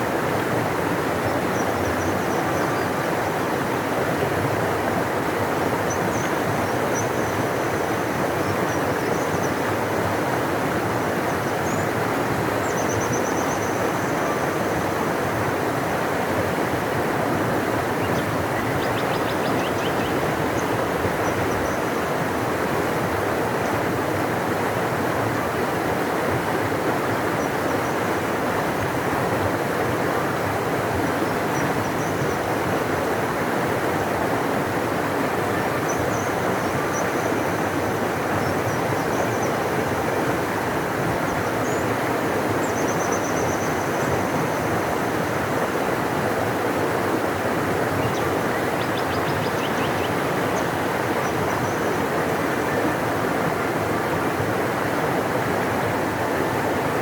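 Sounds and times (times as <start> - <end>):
large river rushing: 0.0 - 57.0.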